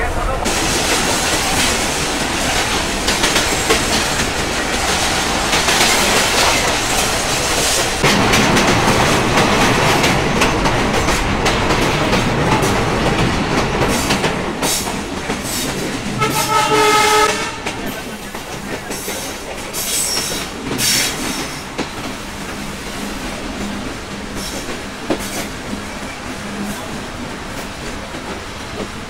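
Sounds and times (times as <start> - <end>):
train wheels clacking on rails: 0.2 - 29.0.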